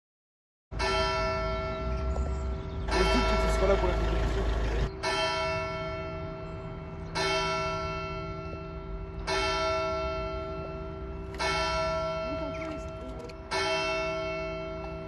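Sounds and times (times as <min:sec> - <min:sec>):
church bell tolling: 0:00.7 - 0:15.0.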